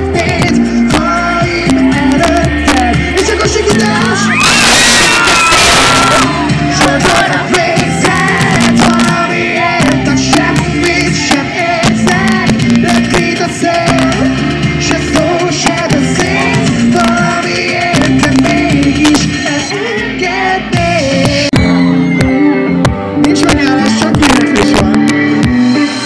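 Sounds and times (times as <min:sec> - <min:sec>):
man singing into a microphone: 0:00.0 - 0:04.4, 0:05.9 - 0:21.6, 0:23.1 - 0:26.0
live amplified band music: 0:00.0 - 0:26.0.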